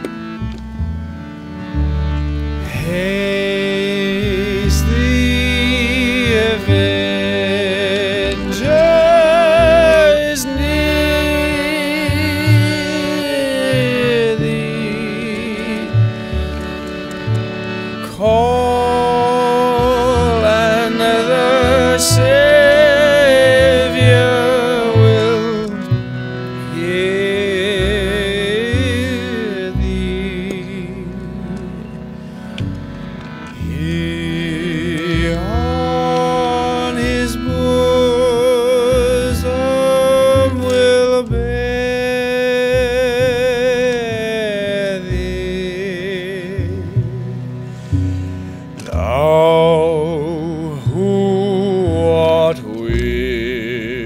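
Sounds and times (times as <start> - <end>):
harmonium chords: 0.0 - 54.0
plucked double bass: 0.0 - 54.0
man singing hymn: 2.6 - 16.1, 18.0 - 25.9, 26.6 - 31.9, 33.5 - 47.2, 48.8 - 54.0.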